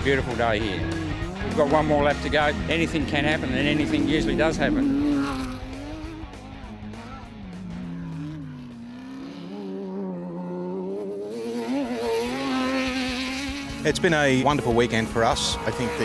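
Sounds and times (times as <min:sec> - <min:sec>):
buggy engines passing: 0:00.0 - 0:16.0.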